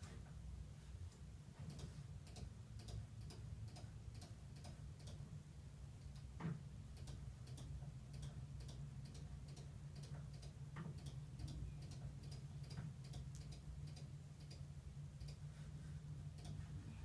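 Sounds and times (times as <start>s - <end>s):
clock ticking: 1.7s - 5.4s, 6.0s - 16.7s.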